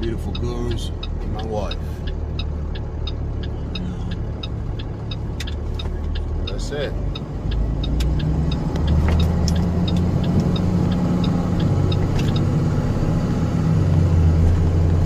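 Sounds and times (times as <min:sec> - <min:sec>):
truck engine hum: 0:00.0 - 0:15.0
turn signal clicking: 0:00.0 - 0:15.0.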